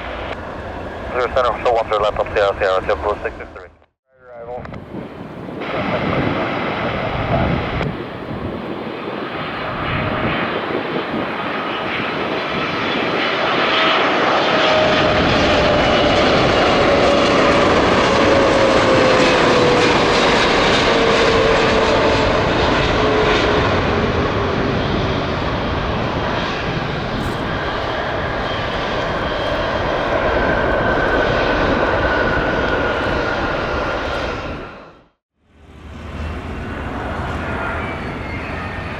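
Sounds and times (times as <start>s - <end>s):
airliner jet engines passing: 0.0s - 38.9s.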